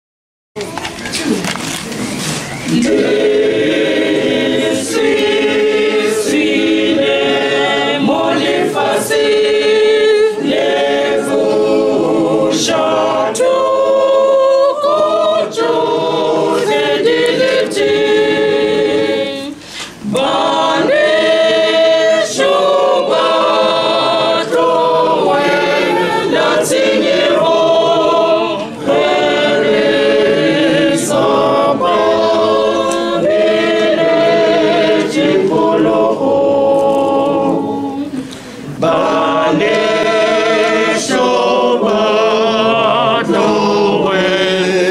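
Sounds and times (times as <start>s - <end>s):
choir singing a hymn: 2.2s - 44.9s.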